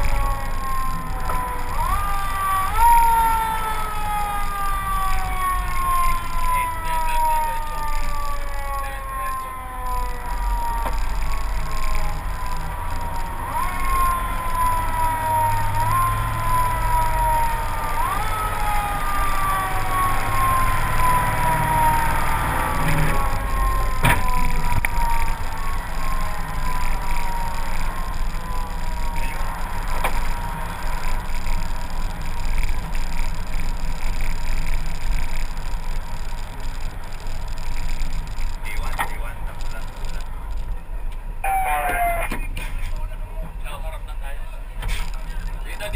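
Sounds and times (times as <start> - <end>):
fire truck siren: 0.0 - 42.7
vehicle engine running: 0.0 - 45.9.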